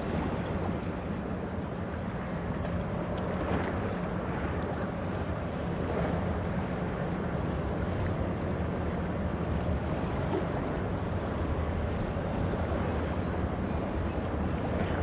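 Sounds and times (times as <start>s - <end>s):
ship diesel engine drone: 0.0s - 15.0s
wind and sea hiss: 0.0s - 15.0s.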